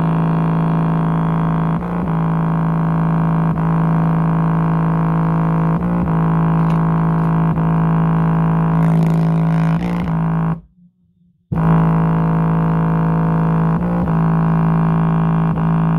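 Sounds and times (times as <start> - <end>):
subwoofer buzzy low drone: 0.0 - 15.9.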